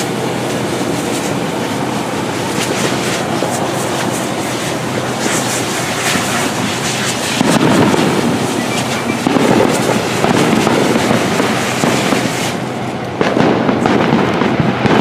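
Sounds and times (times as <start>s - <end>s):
fire hose spraying water: 0.0s - 14.9s
firework crackling and popping: 0.0s - 15.0s.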